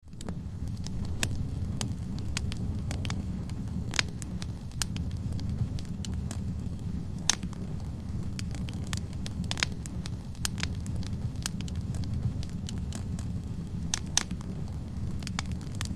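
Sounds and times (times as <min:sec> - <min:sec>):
logs crackling and popping: 0:00.0 - 0:15.9
low rumble of flames: 0:00.0 - 0:15.9.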